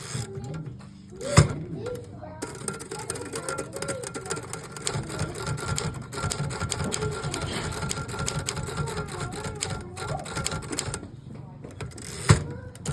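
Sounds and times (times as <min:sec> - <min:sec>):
manual typewriter typing fast: 0:01.2 - 0:11.0, 0:11.8 - 0:12.9.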